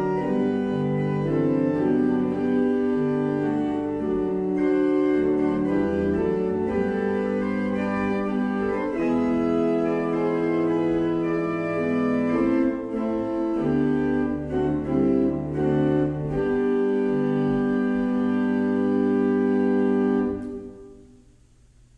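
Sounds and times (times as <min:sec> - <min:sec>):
organ playing chords: 0:00.0 - 0:21.1.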